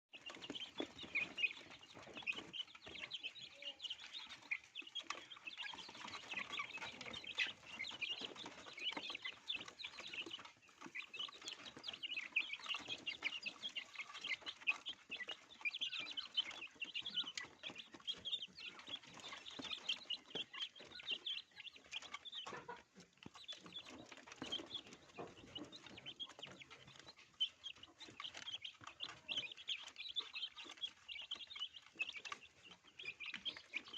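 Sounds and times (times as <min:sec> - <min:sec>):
chickens cheeping and clucking: 0:00.0 - 0:33.9.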